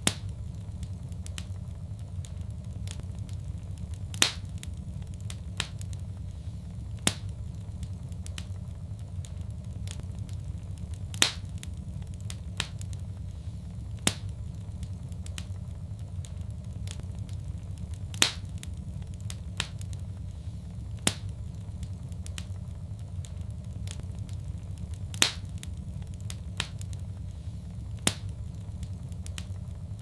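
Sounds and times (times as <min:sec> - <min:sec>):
fire crackling in a fireplace: 0:00.0 - 0:30.0.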